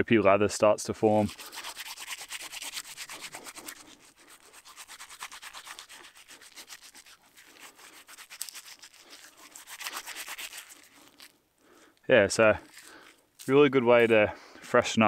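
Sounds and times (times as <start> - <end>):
wet hands rubbing together: 1.0 - 14.8.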